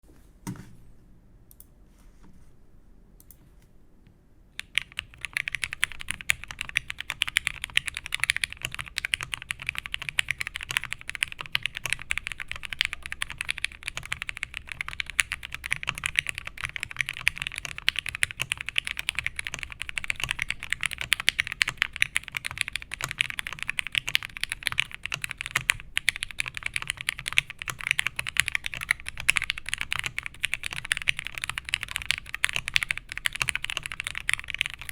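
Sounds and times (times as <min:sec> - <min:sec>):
fast typing on mechanical keyboard: 0:04.6 - 0:34.9.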